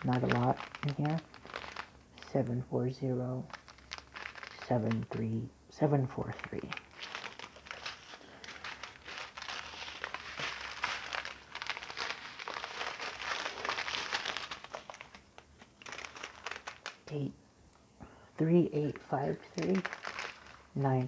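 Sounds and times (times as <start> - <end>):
plastic bags crinkling: 0.0 - 2.6, 3.2 - 5.4, 6.2 - 17.2, 18.7 - 21.0.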